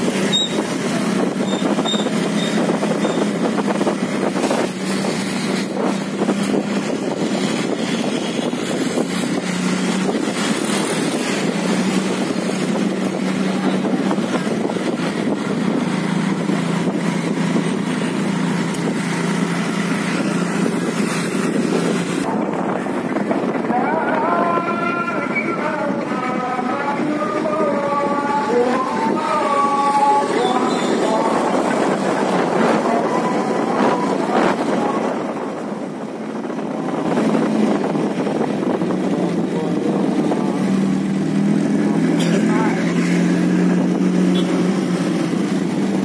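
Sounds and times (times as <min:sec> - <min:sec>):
continuous engine hum: 0:00.0 - 0:46.0
motorbikes and cars in traffic: 0:00.0 - 0:46.0.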